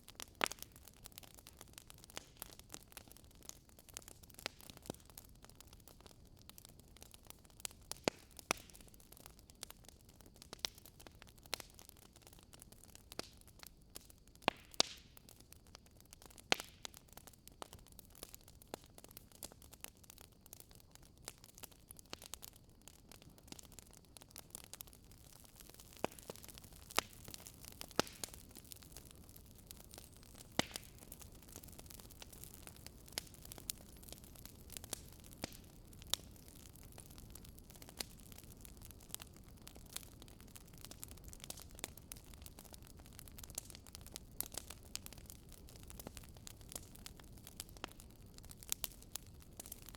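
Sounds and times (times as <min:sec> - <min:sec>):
faint steady hiss: 0:00.0 - 0:49.9
logs crackling and popping: 0:00.0 - 0:49.9.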